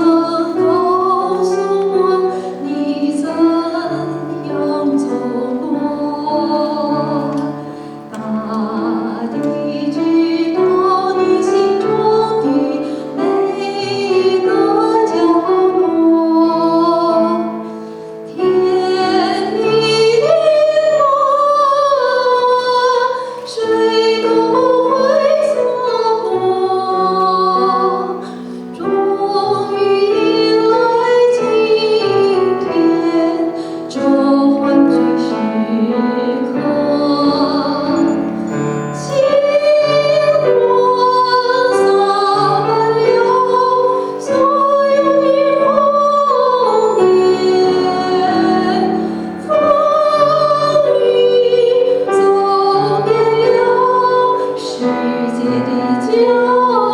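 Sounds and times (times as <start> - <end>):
woman singing operatically: 0.0 - 7.5, 8.2 - 17.5, 18.3 - 28.2, 28.8 - 38.2, 39.0 - 56.9
piano: 0.0 - 56.9.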